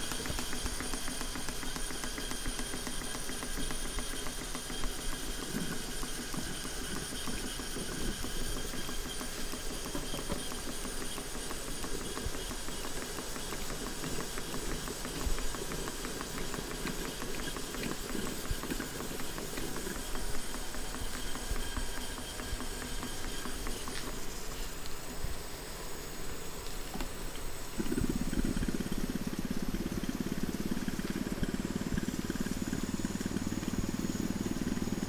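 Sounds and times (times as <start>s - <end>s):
steam engine exhaust beats: 0.0s - 35.0s.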